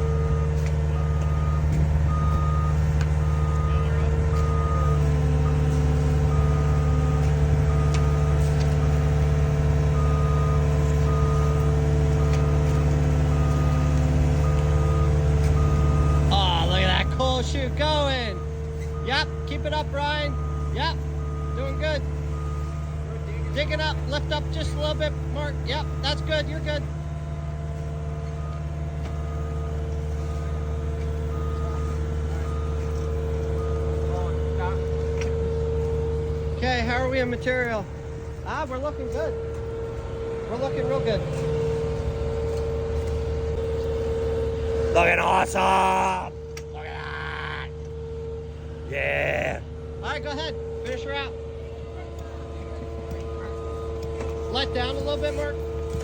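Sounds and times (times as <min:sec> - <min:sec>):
reversing alarm beeping: 0:00.0 - 0:46.5, 0:52.9 - 0:56.0
constant whine: 0:00.0 - 0:56.0
heavy diesel equipment running: 0:00.0 - 0:56.0.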